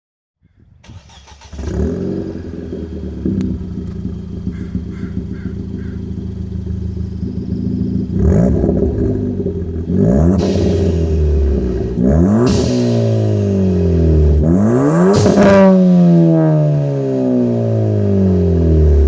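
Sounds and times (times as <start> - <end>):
car engine starting and idling: 0.5 - 19.0
car engine revving: 0.8 - 19.0.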